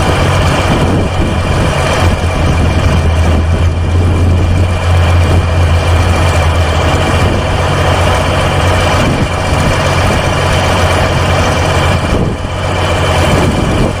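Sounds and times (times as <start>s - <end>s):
heavy engine idling: 0.0s - 14.0s.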